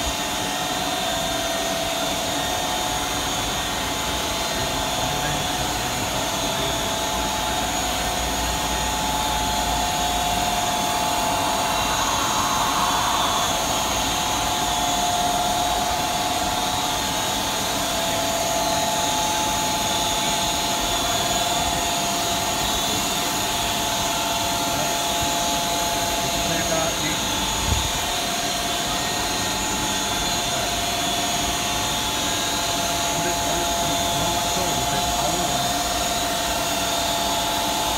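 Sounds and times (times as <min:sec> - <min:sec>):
car wash blowers rushing: 0:00.0 - 0:37.9
steady motor whine: 0:00.0 - 0:37.9.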